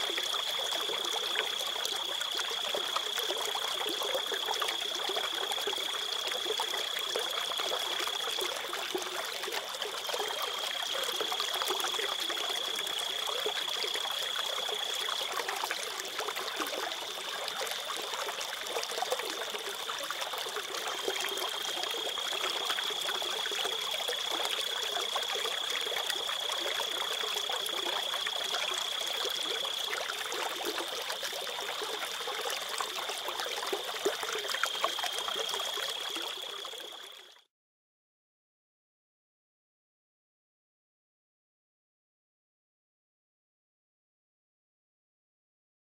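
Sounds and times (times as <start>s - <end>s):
river water trickling: 0.0s - 37.4s.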